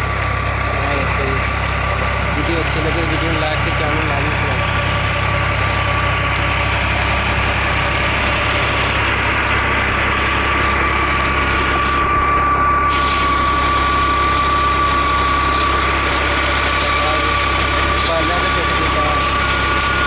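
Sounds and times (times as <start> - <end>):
steady high whine: 0.0 - 20.0
tractor diesel engine under load: 0.0 - 20.0.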